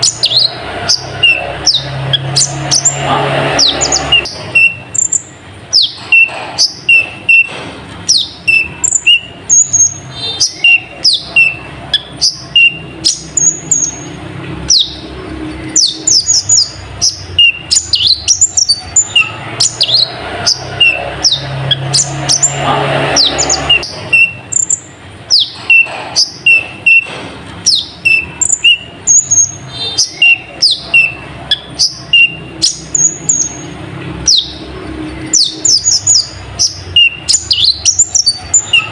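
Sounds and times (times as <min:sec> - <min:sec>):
bird singing high chirps: 0:00.0 - 0:07.5, 0:08.1 - 0:38.9.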